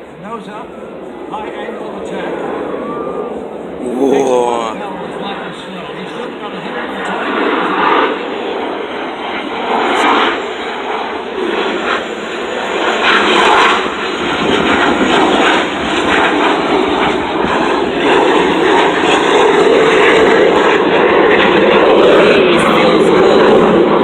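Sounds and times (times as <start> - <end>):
jet passing overhead: 4.8 - 24.0.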